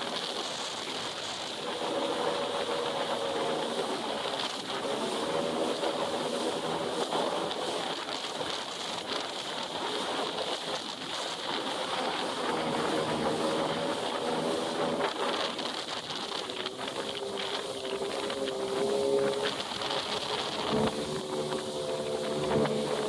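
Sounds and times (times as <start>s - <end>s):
jet ski engine running: 0.0s - 23.0s
water rushing along hull: 0.0s - 23.0s
wind: 0.0s - 23.0s.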